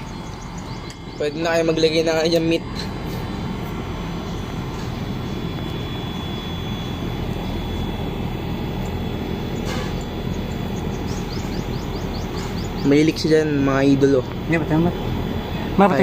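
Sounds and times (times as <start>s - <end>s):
air conditioner fan and compressor hum: 0.0s - 16.0s
faint whine: 0.0s - 16.0s.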